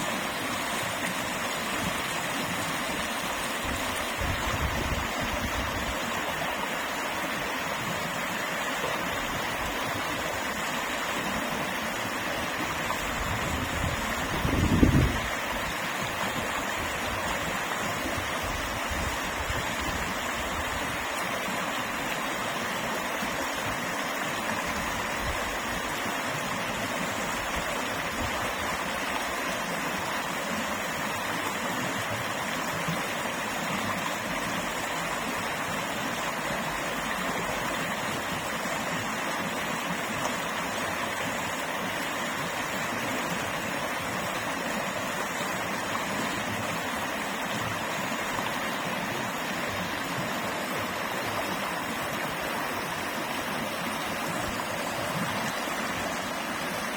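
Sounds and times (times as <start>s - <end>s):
creek water over rocks: 0.0s - 56.9s.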